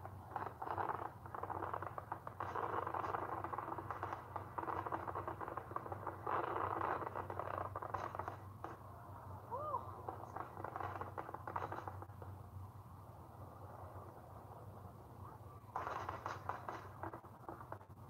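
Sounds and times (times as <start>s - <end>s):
muffled fireworks crackling: 0.0s - 18.0s
steady low hum: 0.0s - 18.0s.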